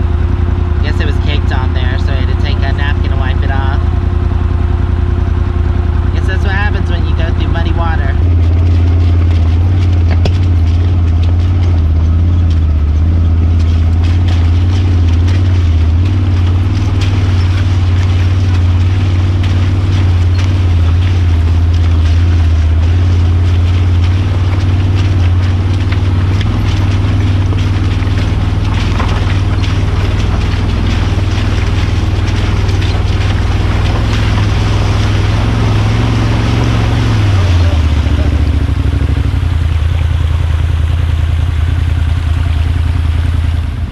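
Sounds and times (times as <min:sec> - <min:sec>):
knocks and rattles: 0:00.0 - 0:41.7
vehicle engine droning: 0:00.0 - 0:43.9.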